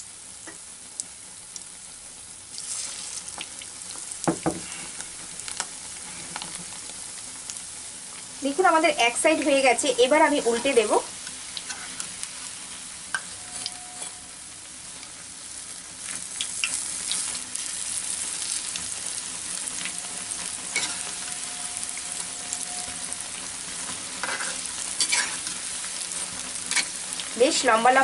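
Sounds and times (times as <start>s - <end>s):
fritters sizzling in hot oil: 0.0s - 28.0s.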